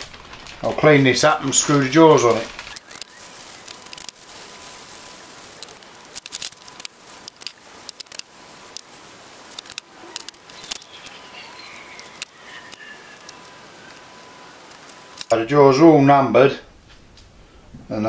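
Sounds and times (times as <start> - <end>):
plastic packaging crackling: 0.0 - 15.8.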